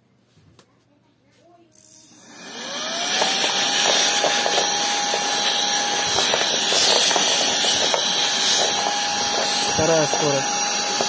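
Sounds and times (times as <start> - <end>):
handheld vacuum motor whine: 2.0 - 11.0.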